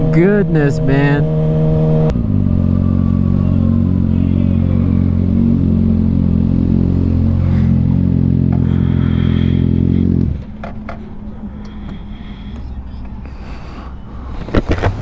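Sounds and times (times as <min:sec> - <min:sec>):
motorcycle engine running steadily: 0:00.0 - 0:13.2.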